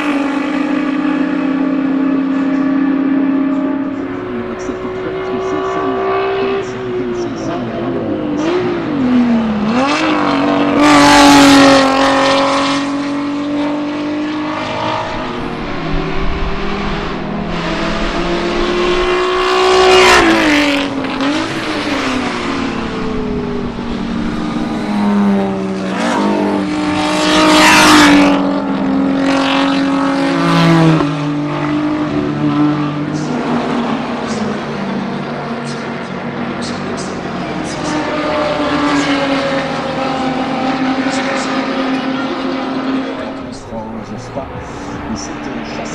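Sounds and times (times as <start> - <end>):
racing car engine passing by: 0.0 - 45.9.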